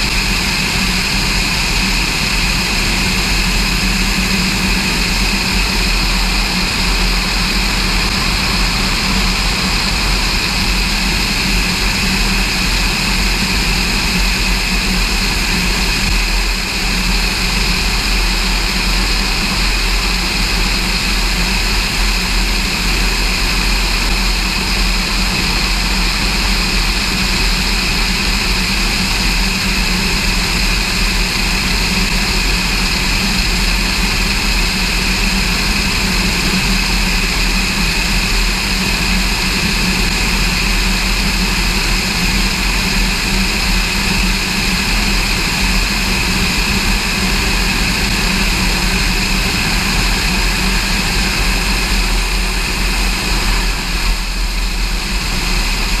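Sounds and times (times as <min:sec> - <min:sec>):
propeller plane engine drone: 0:00.0 - 0:56.0
rushing airflow noise: 0:00.0 - 0:56.0.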